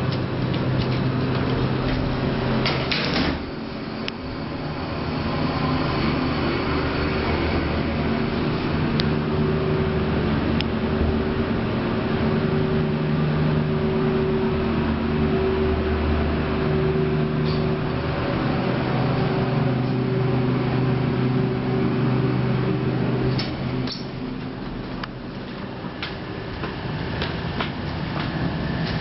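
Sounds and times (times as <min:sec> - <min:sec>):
elevator doors sliding shut: 0:00.0 - 0:15.2, 0:16.3 - 0:29.0
elevator mechanical hum: 0:00.0 - 0:29.0.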